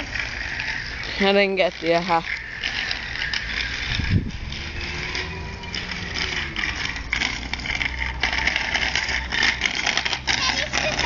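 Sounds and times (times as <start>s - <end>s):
bicycle rolling over rough concrete: 0.0s - 11.0s
small rattles and clicks: 0.0s - 11.0s.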